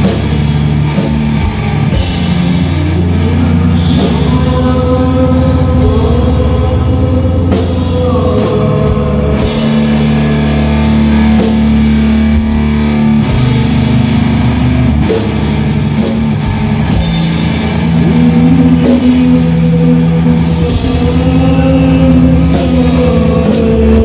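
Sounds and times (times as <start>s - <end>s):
distorted electric guitar chords: 0.0s - 24.0s.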